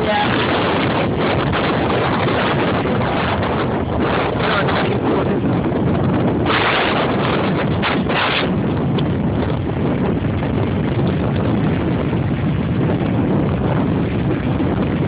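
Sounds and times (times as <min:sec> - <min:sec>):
storm waves breaking on shore: 0:00.0 - 0:15.0
wind buffeting microphone: 0:00.0 - 0:15.0.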